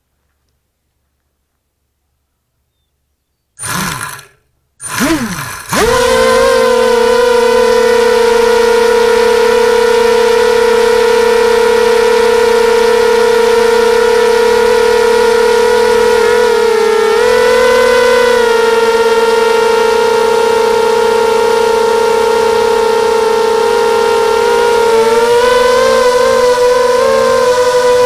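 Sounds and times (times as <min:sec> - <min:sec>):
quadcopter motors whining: 0:03.6 - 0:28.0.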